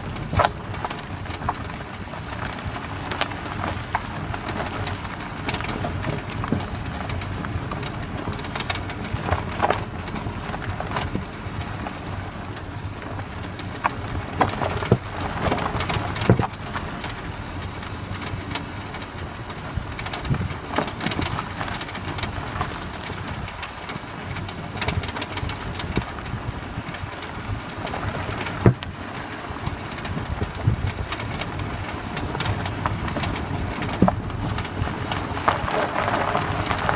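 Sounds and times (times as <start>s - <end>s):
road and tyre noise: 0.0s - 36.9s
suspension knocks: 0.0s - 36.9s.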